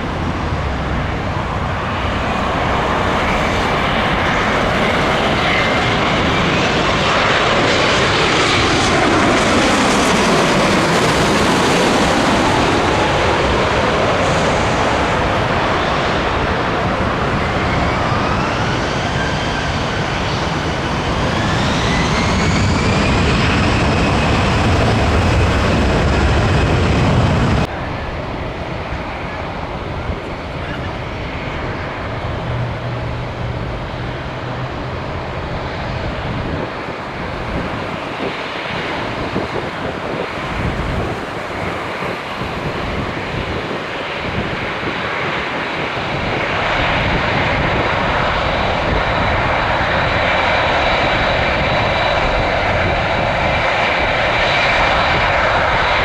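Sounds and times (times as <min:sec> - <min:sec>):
jet engine rumble with rising whine: 0:00.0 - 0:56.0
steady jet rumble: 0:00.0 - 0:56.0.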